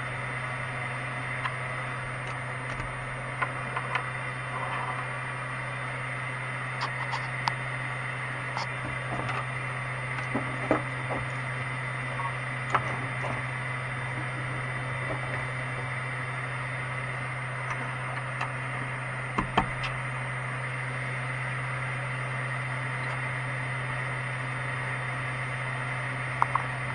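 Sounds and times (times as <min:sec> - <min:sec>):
printer fans humming: 0:00.0 - 0:26.9.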